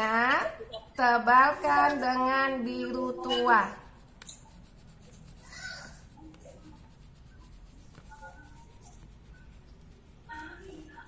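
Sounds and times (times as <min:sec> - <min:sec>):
colouring tool scratching paper: 0:00.0 - 0:11.0.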